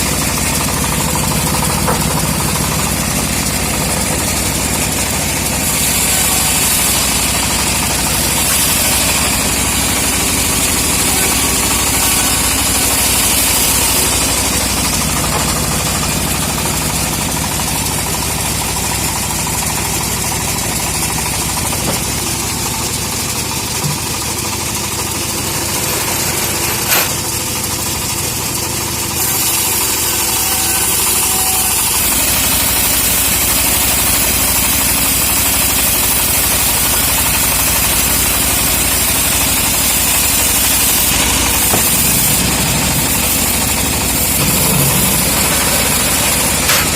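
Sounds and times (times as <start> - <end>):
sawmill sawing log: 0.0 - 46.9.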